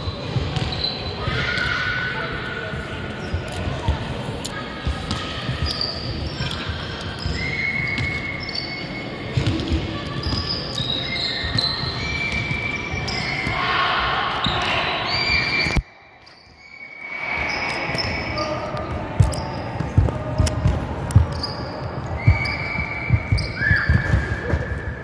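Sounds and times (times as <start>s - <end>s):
echoing voices: 0.0s - 25.0s
sneakers squeaking: 0.0s - 25.0s.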